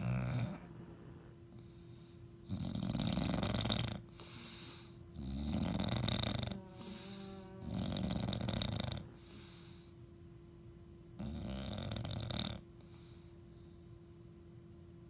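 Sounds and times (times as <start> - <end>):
dog snoring: 0.0 - 9.9, 11.2 - 13.3
dog breathing: 0.0 - 10.0, 11.2 - 13.4.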